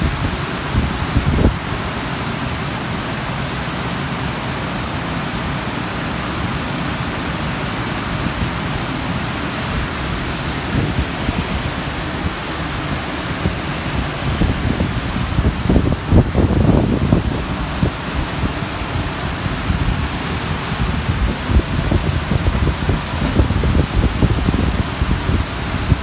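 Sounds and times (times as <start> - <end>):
water rushing over spillway: 0.0 - 26.0.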